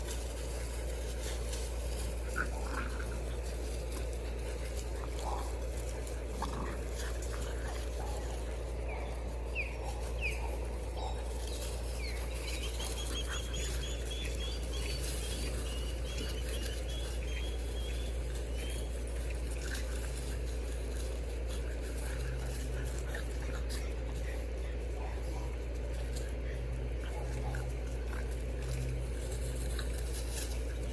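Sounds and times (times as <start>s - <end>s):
puppies squeaking and whining: 0.0s - 30.9s
steady low hum: 0.0s - 30.9s.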